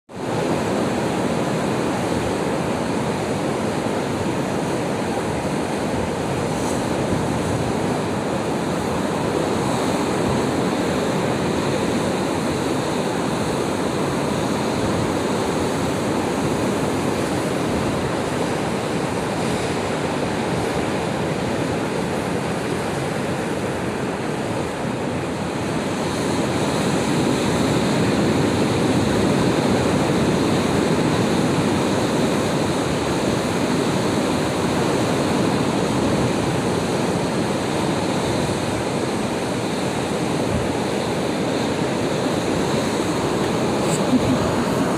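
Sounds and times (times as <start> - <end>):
waves breaking on shore: 0.1 - 44.9.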